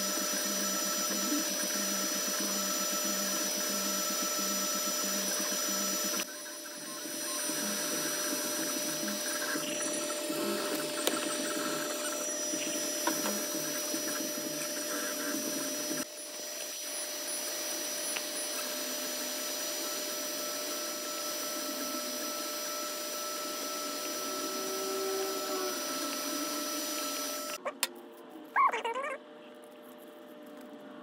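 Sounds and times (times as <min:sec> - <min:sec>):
three d printer fan hum and whine: 0:00.0 - 0:31.0.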